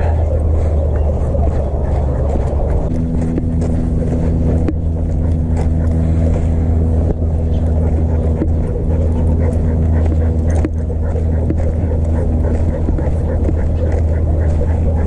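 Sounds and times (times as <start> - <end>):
small motor droning: 0.0 - 15.0.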